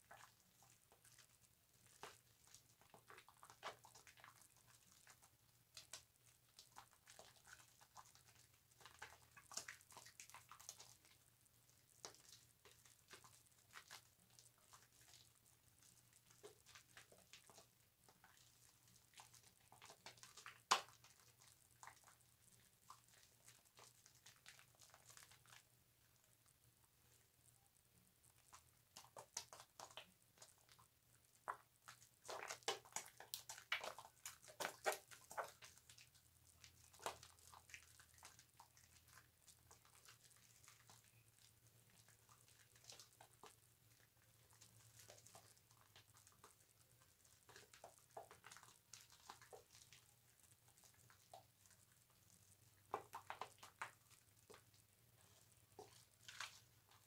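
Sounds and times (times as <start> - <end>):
soap lather squishing and crackling: 0.0 - 57.0.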